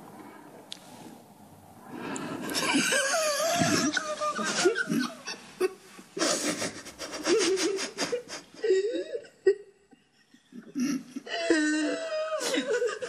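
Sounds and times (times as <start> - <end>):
woman sobbing: 2.4 - 13.0.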